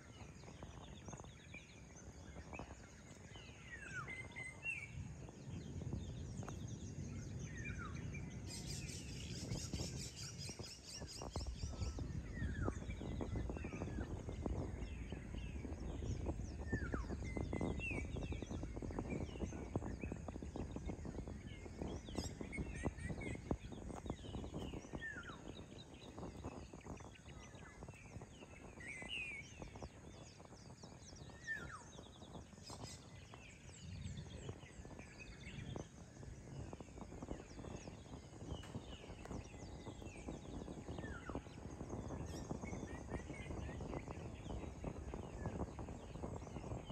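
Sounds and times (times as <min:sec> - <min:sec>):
birds chirping and whistling: 0:00.0 - 0:46.9.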